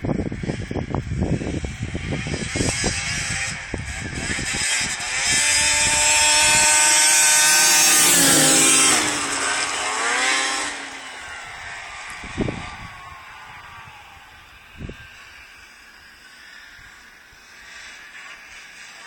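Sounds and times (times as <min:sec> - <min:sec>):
snowmobile passing by: 0:00.0 - 0:19.0.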